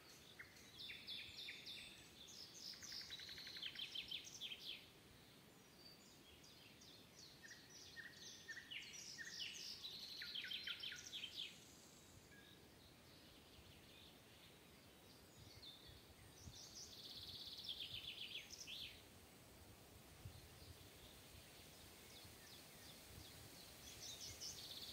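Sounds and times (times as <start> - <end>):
songbird song: 0.0 - 24.9
steady background hiss: 0.0 - 24.9.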